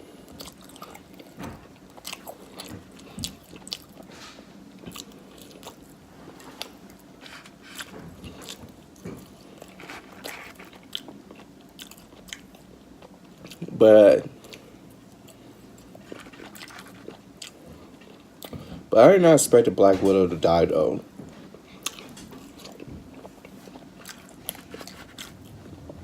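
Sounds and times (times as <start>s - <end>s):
person chewing food: 0.0s - 18.9s, 21.3s - 26.0s.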